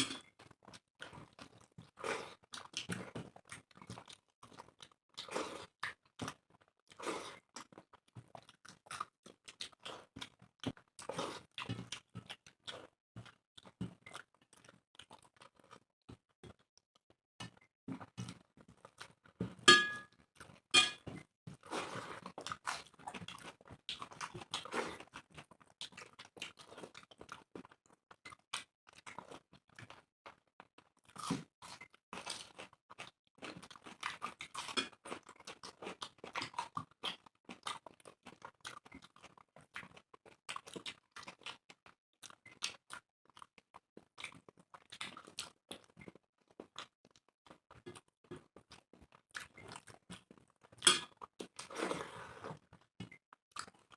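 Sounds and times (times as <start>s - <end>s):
people chewing food: 0.0s - 53.9s.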